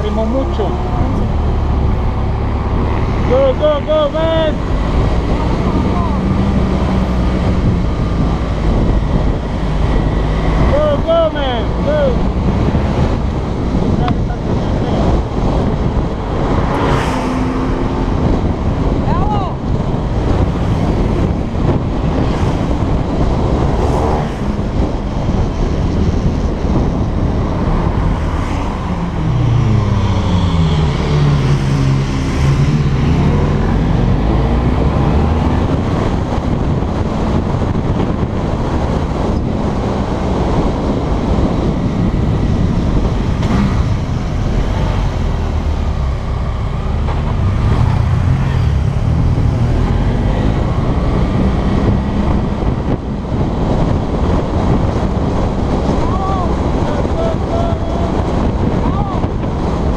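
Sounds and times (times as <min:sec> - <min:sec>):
wind rush on microphone: 0:00.0 - 0:59.9.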